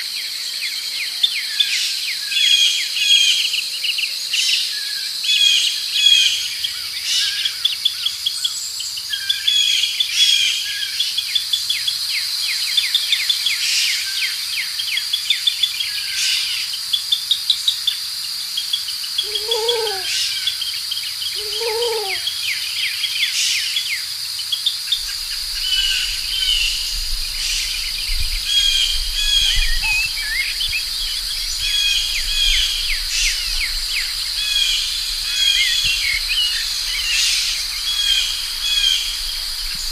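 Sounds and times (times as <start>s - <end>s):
high insect drone: 4.6s - 39.9s
small birds chirping and singing: 5.5s - 23.4s, 24.4s - 39.9s.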